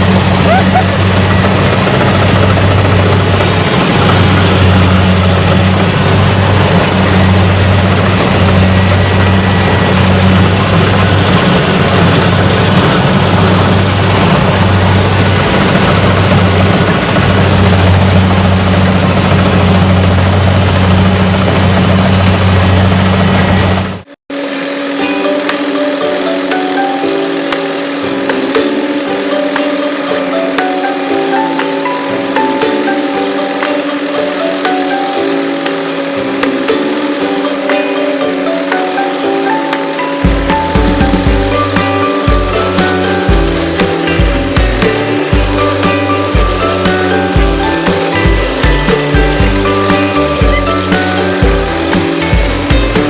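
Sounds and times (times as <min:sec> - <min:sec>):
music: 0:00.0 - 0:19.7, 0:24.9 - 0:53.0
combine harvester engine drone: 0:00.0 - 0:53.0.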